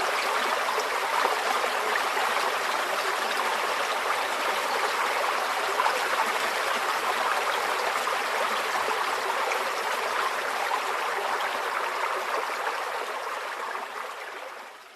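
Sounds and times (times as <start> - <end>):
stream flowing: 0.0 - 14.9.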